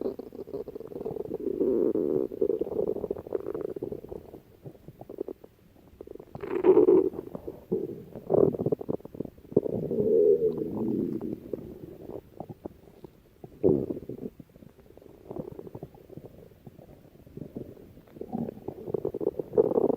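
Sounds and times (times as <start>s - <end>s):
stomach growling: 0.0s - 19.9s.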